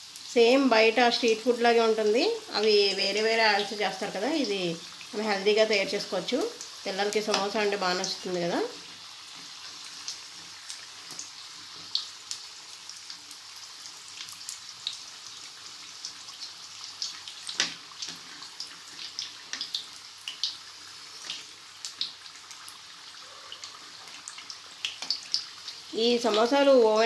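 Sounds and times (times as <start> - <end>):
food deep-frying in oil: 0.0 - 27.0.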